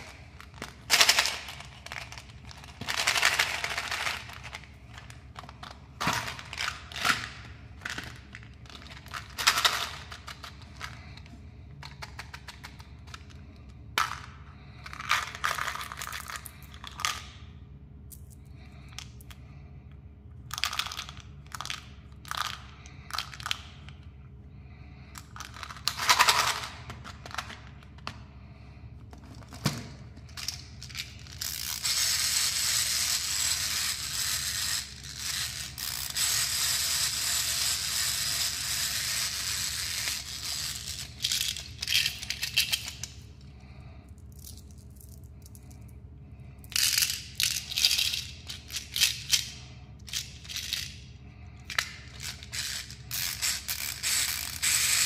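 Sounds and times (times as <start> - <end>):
candies rattling in plastic packaging: 0.0 - 17.4, 20.4 - 24.0, 25.2 - 28.0, 29.2 - 43.3, 46.6 - 51.0, 51.6 - 55.0.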